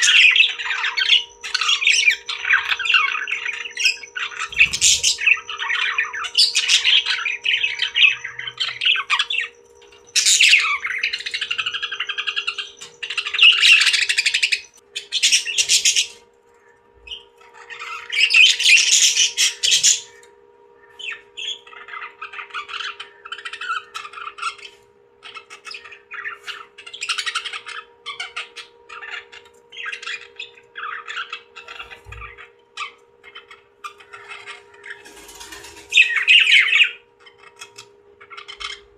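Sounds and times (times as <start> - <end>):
parrots squawking and chattering: 0.0 - 16.2, 17.0 - 20.3, 20.9 - 38.9
faint steady hum: 0.0 - 38.9.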